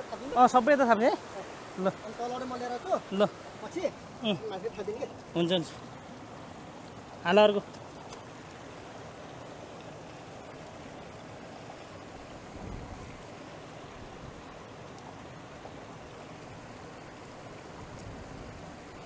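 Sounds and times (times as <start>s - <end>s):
river flowing over stones: 0.0s - 19.0s.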